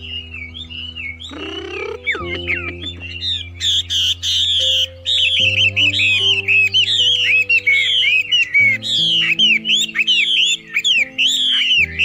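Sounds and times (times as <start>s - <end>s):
birds chirping and whistling: 0.0s - 12.0s
music of sustained chords: 0.0s - 12.0s.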